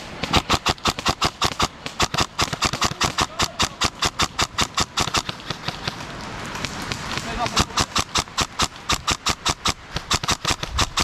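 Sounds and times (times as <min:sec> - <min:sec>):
airsoft gun rapid fire: 0:00.0 - 0:11.0.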